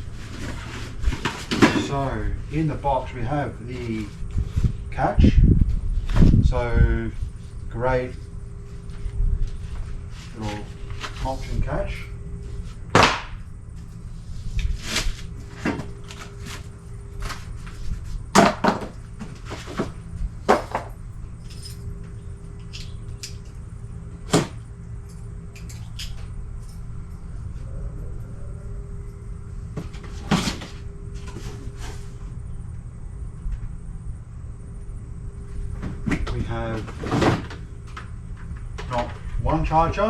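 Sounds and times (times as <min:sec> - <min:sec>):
low background hum: 0:00.0 - 0:40.0.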